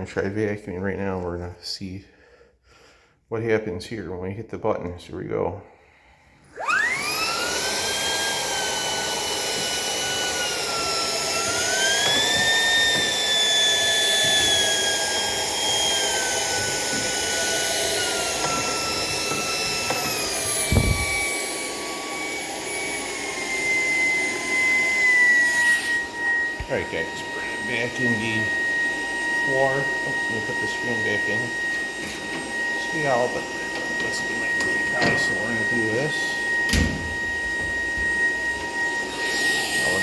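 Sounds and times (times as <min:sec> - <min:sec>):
vacuum motor high whine: 0:06.5 - 0:40.0.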